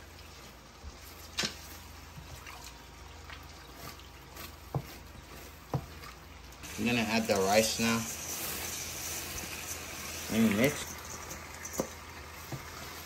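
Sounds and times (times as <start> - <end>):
stew bubbling in a pot: 0.0 - 13.0
wooden spoon stirring: 0.1 - 13.0.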